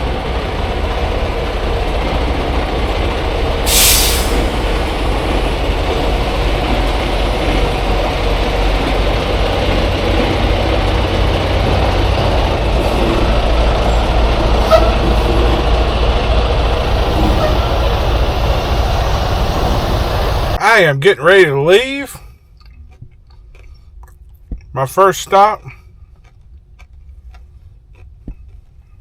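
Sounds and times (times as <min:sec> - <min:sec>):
diesel truck engine rumbling: 0:00.0 - 0:26.8.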